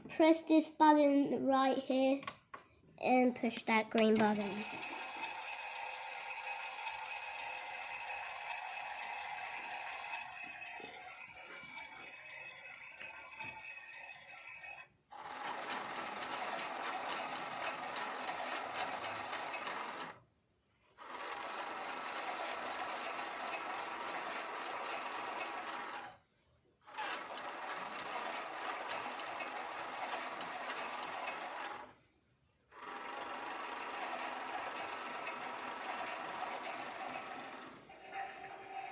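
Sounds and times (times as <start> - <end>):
toy washing machine motor whirring: 4.0 - 38.9.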